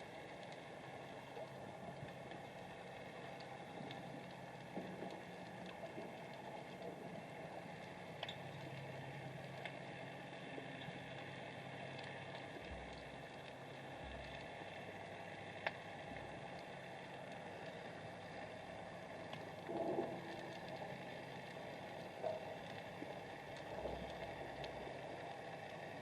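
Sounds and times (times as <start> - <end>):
low underwater hum: 0.0 - 26.0.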